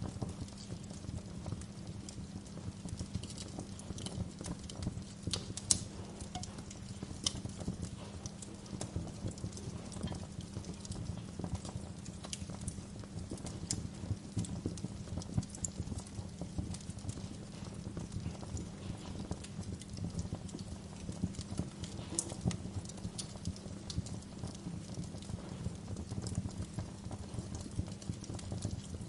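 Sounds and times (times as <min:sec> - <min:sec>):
low fire rumble: 0:00.0 - 0:29.0
wood fire snaps and pops: 0:00.0 - 0:29.0.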